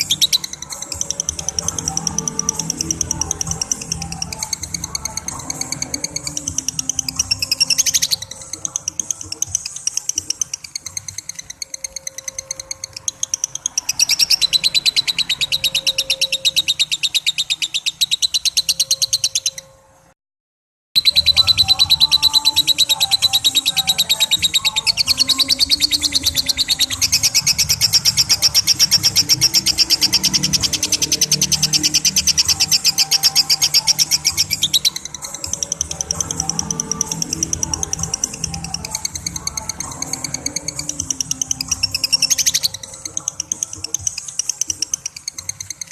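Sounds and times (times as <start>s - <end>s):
lovebird chattering trill: 0.0s - 19.8s, 21.0s - 45.9s.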